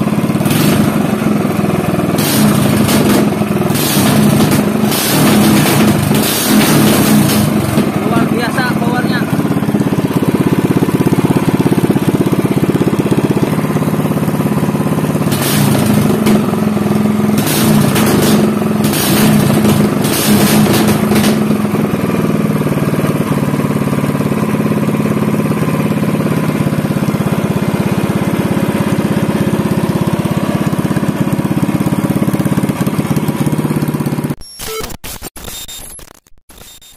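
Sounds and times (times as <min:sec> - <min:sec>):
engine running loud: 0:00.0 - 0:34.4.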